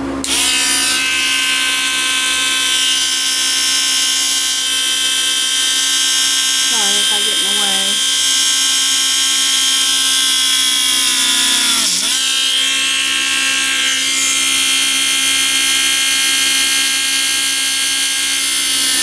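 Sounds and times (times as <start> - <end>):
rotary tool whining: 0.0 - 19.0.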